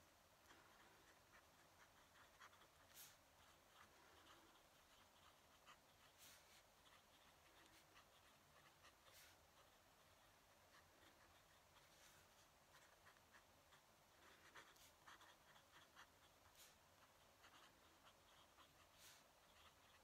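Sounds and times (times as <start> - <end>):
pen nib scratching on paper: 0.0 - 20.0.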